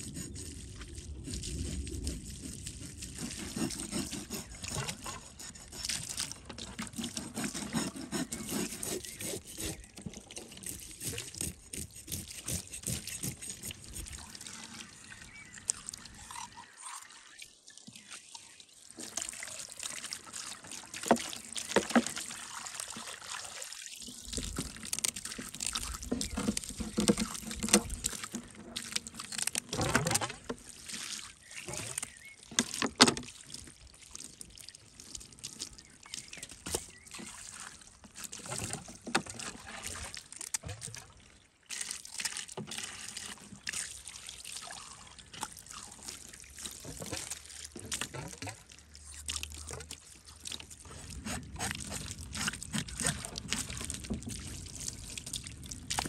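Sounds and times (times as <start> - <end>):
hose water splashing on board: 0.0 - 56.0.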